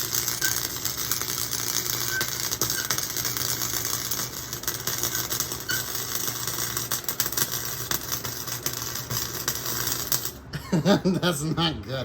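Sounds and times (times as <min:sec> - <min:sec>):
welding arc crackling: 0:00.0 - 0:10.5.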